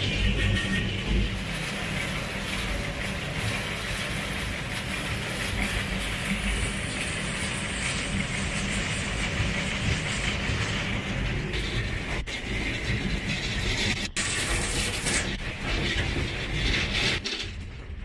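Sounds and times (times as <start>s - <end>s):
cable car running noise: 0.0s - 18.0s.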